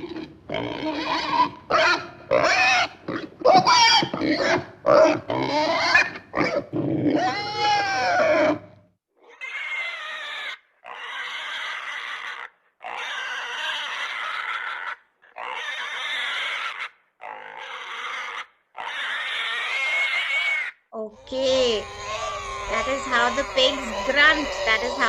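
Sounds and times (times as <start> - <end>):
pigs grunting: 0.0 - 25.0.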